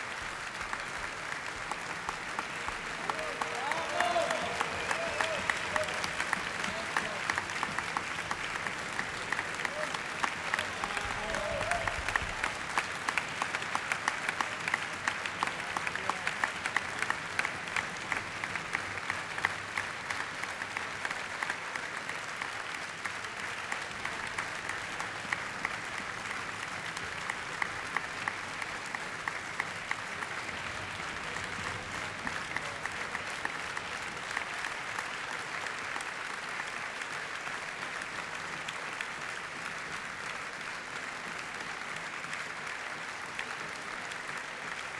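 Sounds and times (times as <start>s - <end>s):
audience applauding: 0.0s - 44.9s.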